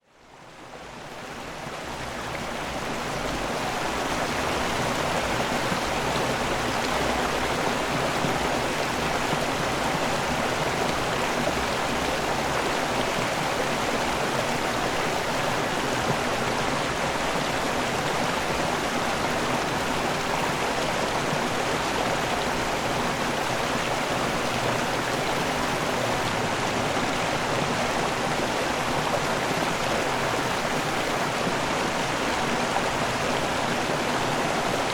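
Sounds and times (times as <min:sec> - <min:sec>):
waterfall rushing: 0:02.0 - 0:34.9.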